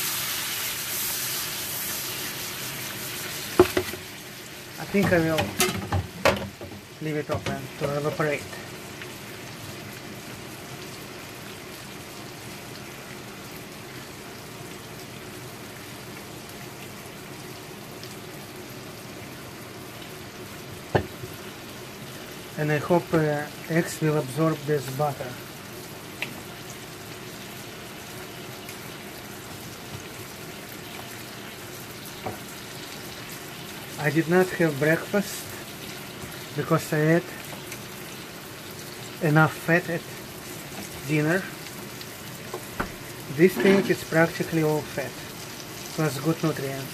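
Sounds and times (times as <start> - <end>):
bubbling sizzle in frying pan: 0.0 - 46.9.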